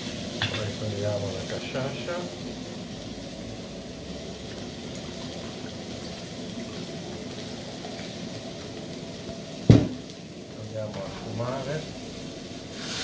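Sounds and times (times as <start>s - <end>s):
rice sizzling in oil: 0.0s - 13.0s.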